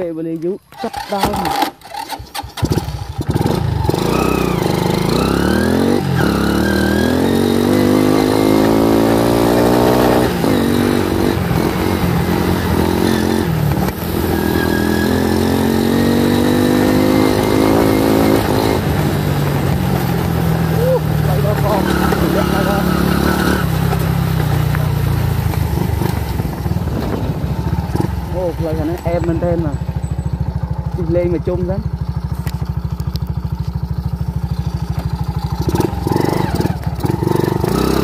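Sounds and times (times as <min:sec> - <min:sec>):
dirt bike engine accelerating: 0:00.7 - 0:38.0.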